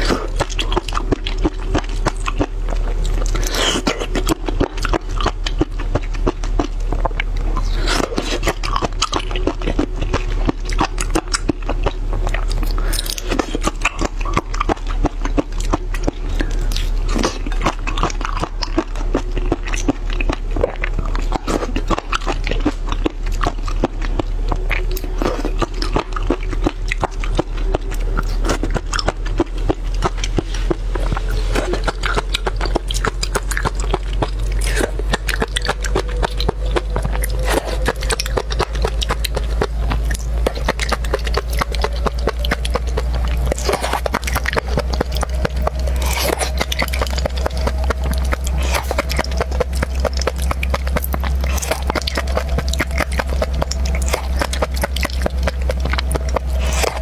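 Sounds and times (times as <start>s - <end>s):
wet chewing clicks and smacks: 0.0s - 57.0s.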